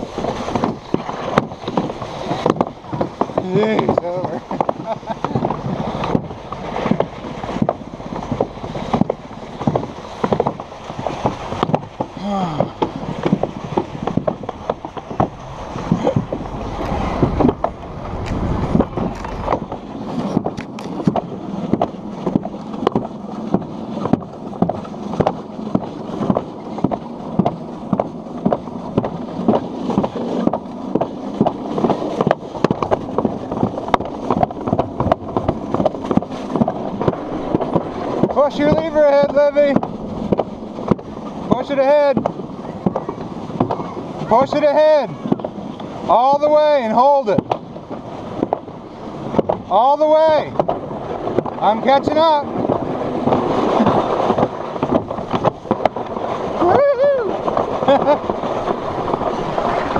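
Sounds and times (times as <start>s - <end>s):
sled clacks and knocks: 0.0s - 59.9s
sled rumbling scrape on track: 0.0s - 59.9s.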